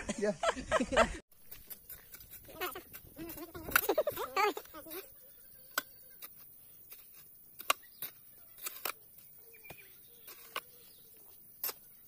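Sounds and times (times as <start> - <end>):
hoe striking gravelly soil: 1.4 - 5.0, 5.7 - 12.0.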